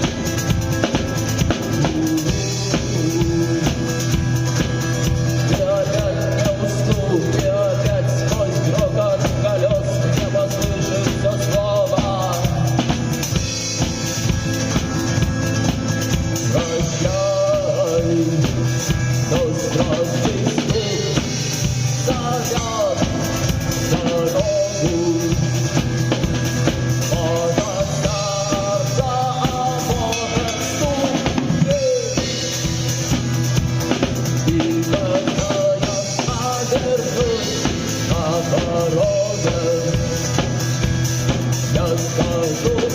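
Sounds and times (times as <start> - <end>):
drum kit beat: 0.0 - 42.9
live rock song: 0.0 - 42.9.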